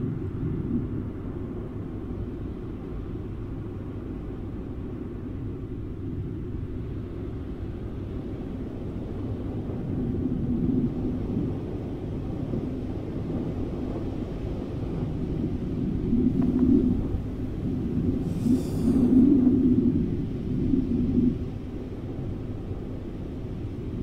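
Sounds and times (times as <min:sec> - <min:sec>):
low rumble of rushing wind: 0:00.0 - 0:24.0.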